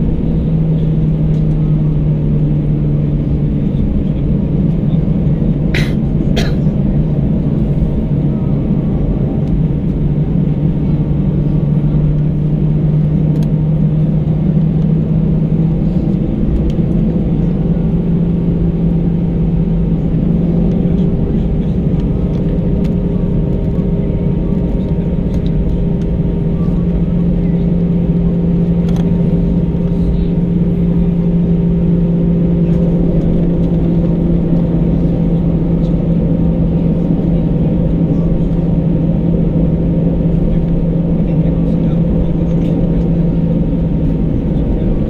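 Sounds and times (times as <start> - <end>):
jet engine cabin drone: 0.0 - 45.0.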